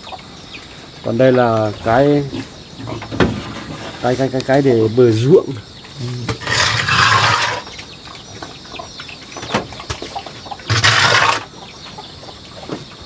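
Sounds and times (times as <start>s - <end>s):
farm animal calls: 0.0s - 13.0s.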